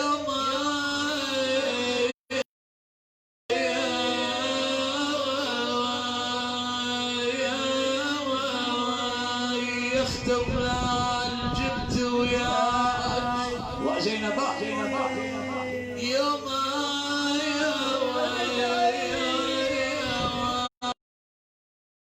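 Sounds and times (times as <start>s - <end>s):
man chanting a lament: 0.0s - 2.4s, 3.5s - 21.0s.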